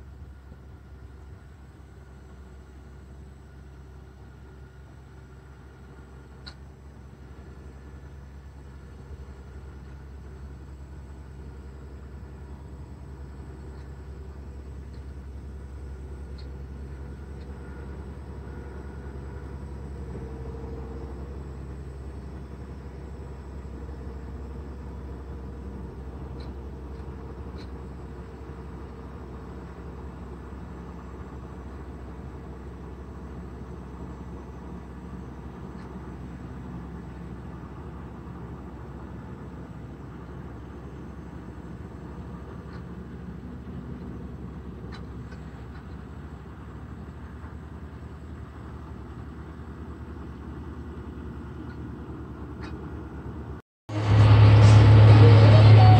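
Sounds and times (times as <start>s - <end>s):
tractor diesel engines droning: 0.0s - 55.9s.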